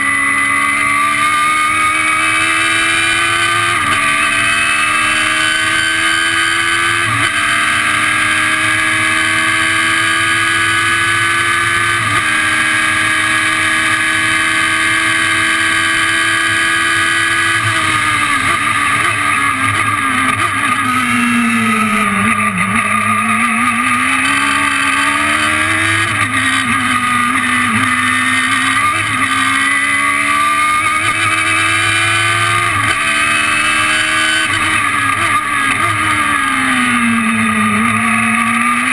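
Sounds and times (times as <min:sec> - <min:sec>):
race car engine revving hard: 0:00.0 - 0:38.9.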